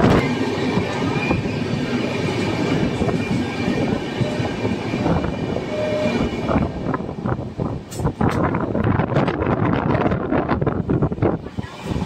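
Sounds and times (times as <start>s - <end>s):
train wheels rumbling in tunnel: 0.0s - 12.0s.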